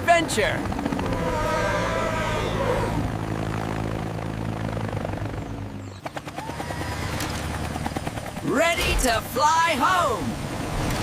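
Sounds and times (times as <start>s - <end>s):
helicopter-like whirring drone: 0.0s - 11.0s.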